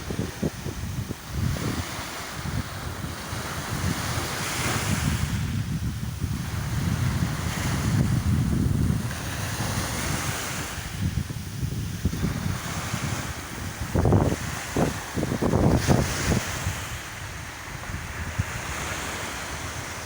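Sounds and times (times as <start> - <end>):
sea waves washing in: 0.0 - 20.0
wind buffeting microphone: 0.0 - 20.0.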